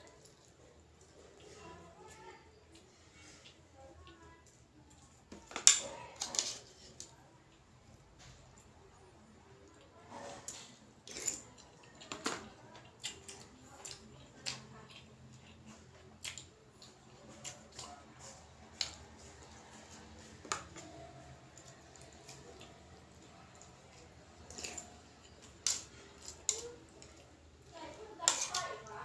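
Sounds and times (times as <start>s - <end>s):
chewing and eating: 0.0s - 29.0s.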